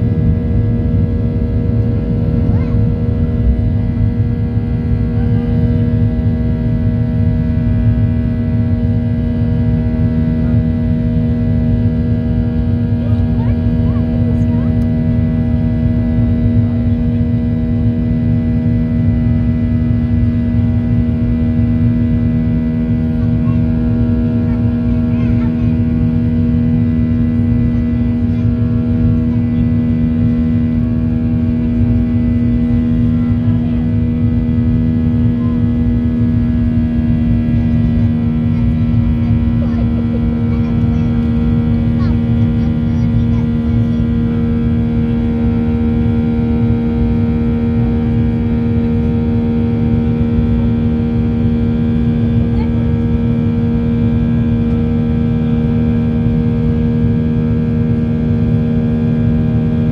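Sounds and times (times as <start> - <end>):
airliner engines droning: 0.0 - 59.9
low rumble of airflow: 0.0 - 59.9.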